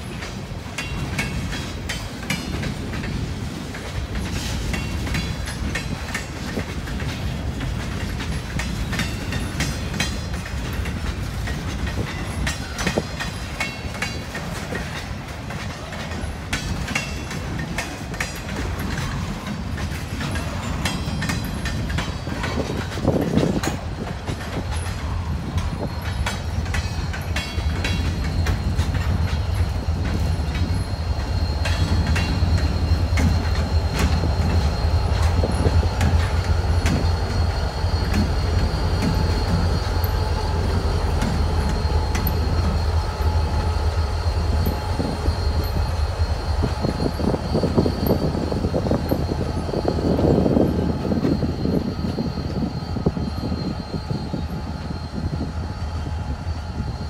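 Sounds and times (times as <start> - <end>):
locomotive engine drone: 0.0 - 57.0
train wheels clicking over rail joints: 0.0 - 57.0
faint high wheel squeal: 4.1 - 57.0.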